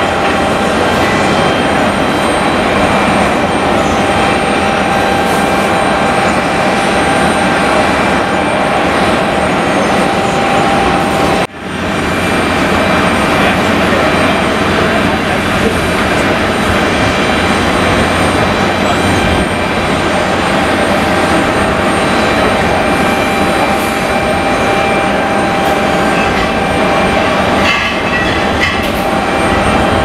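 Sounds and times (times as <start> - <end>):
jet engine whining tones: 0.0 - 30.0
jet engines roaring: 0.0 - 30.0.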